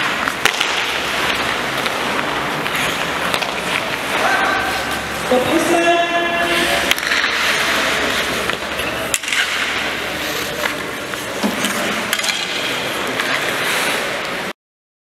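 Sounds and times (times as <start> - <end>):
skate blades scraping ice: 0.0 - 5.8, 6.4 - 14.5
hockey sticks clacking: 0.0 - 14.5.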